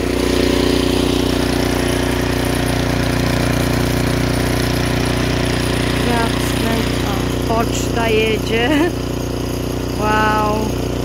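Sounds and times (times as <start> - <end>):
snowblower engine running: 0.0 - 11.0.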